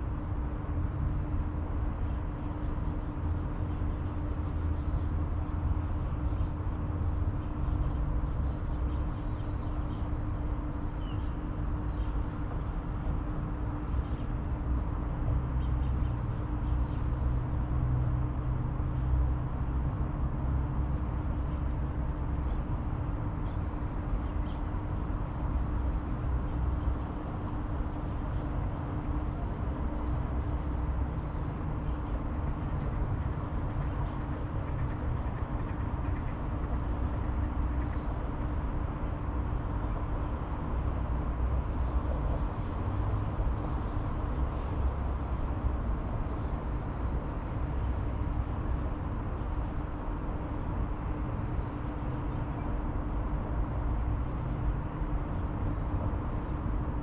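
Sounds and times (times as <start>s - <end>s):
constant hum: 0.0s - 57.0s
distant traffic rumble: 0.0s - 57.0s.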